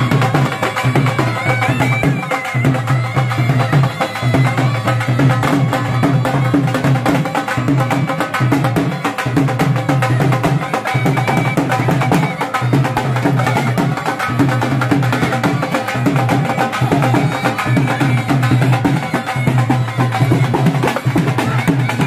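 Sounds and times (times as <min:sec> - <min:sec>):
drums beating fast rhythm: 0:00.0 - 0:22.0.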